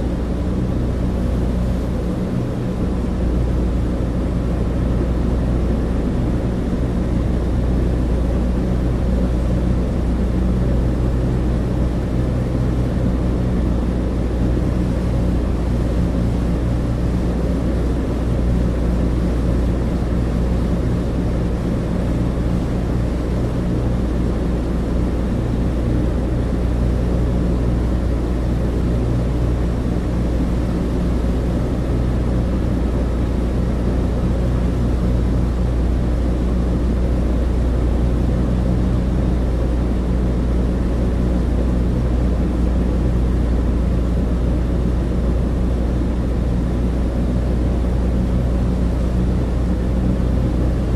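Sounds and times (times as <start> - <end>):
propeller plane engines droning: 0.0 - 50.9.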